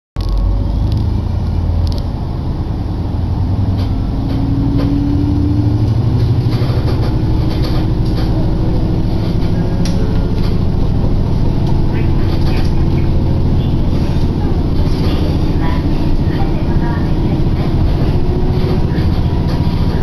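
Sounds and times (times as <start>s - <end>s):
railcar engine drone: 0.2s - 20.0s
wheels rumbling on rail: 0.2s - 20.0s.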